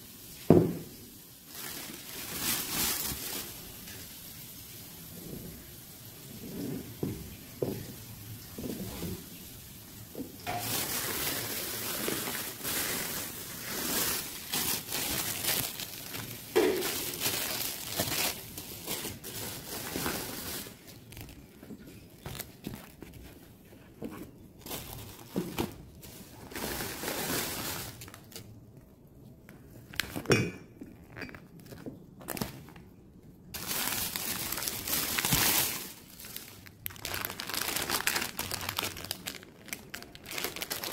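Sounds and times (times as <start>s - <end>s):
plastic bags rustling: 0.1s - 40.9s.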